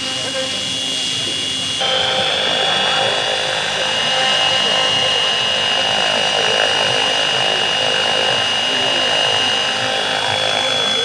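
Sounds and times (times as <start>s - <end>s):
model helicopter rotor whine: 0.0s - 11.0s.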